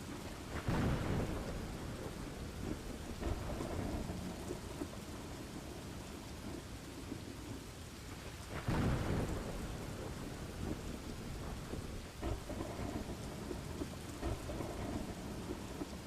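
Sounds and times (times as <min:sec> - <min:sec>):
thunder rumbling: 0:00.0 - 0:07.6, 0:08.2 - 0:16.0
rain falling: 0:00.0 - 0:16.0.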